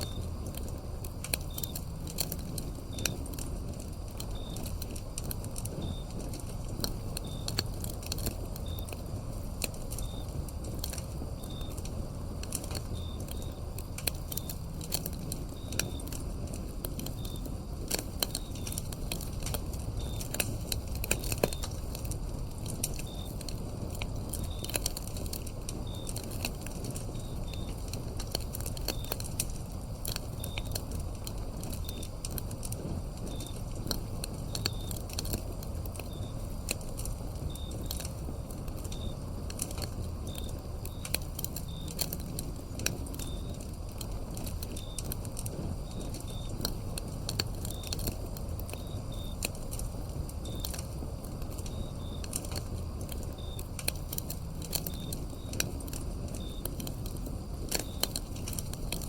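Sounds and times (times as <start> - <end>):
cricket chirping: 0.0 - 59.0
wood fire crackling and popping: 0.0 - 59.0.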